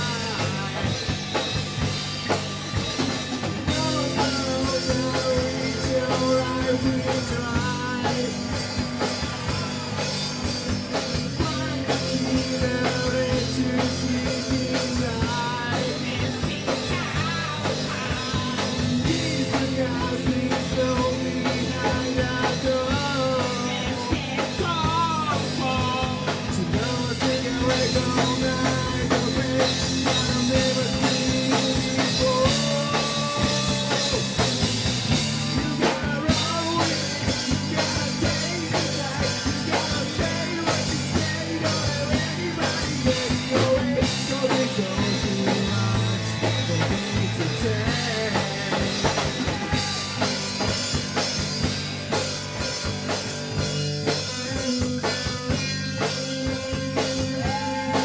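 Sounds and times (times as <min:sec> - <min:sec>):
person singing: 0:00.0 - 0:01.4, 0:03.0 - 0:51.0, 0:54.0 - 0:58.0
drum kit with cymbals: 0:00.0 - 0:58.0
rock band playing live: 0:00.0 - 0:58.0.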